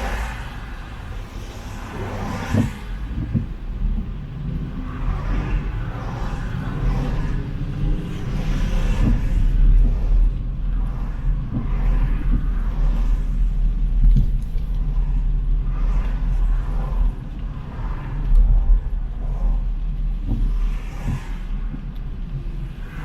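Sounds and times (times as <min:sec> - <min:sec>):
cars passing: 0:00.0 - 0:23.0
low traffic rumble: 0:00.0 - 0:23.0.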